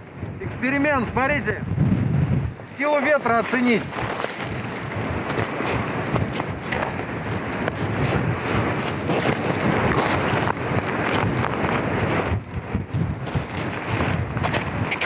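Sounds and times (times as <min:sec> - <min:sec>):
strong wind gusting on microphone: 0:00.0 - 0:15.0.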